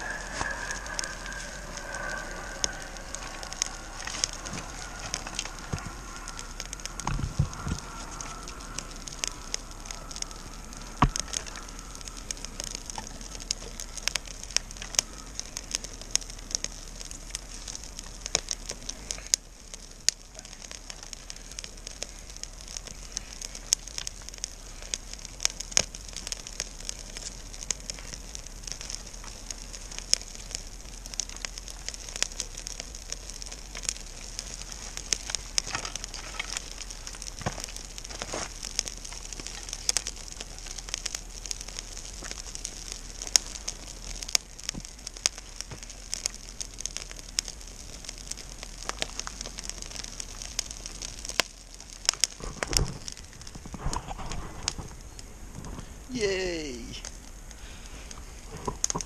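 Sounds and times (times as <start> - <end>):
campfire crackling: 0.0 - 59.0
sharp pops of fire: 0.0 - 59.0.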